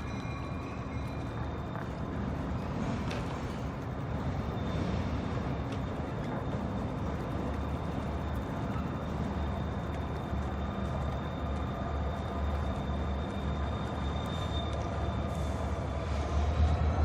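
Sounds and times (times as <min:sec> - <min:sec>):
diesel locomotive rumble: 0:00.0 - 0:17.0.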